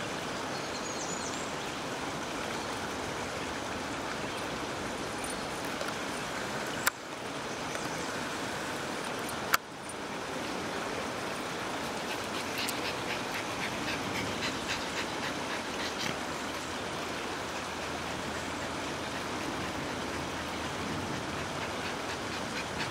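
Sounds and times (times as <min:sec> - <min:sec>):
river water rushing over rocks: 0:00.0 - 0:22.9.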